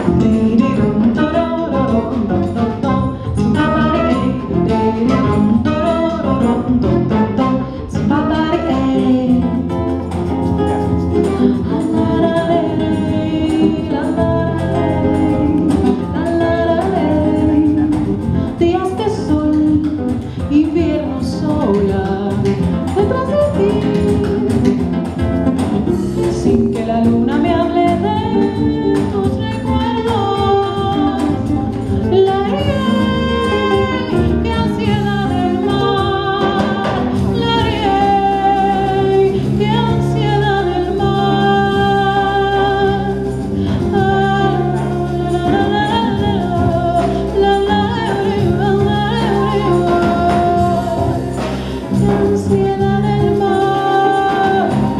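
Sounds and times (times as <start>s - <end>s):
acoustic guitar: 0.0s - 54.9s
electric bass: 0.0s - 54.9s
percussion: 0.0s - 54.9s
woman singing: 0.0s - 54.9s.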